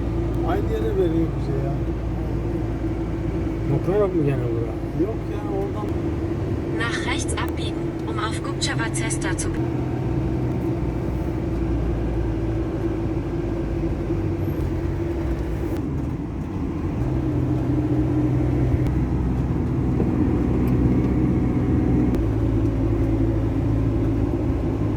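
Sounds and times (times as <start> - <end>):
car engine and road noise: 0.0 - 24.9.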